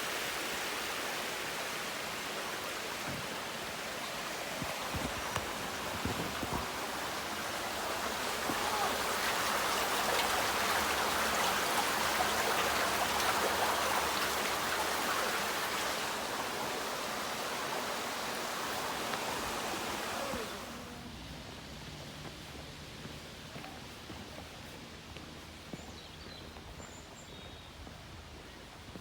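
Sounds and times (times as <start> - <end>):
running water rushing: 0.0 - 29.0.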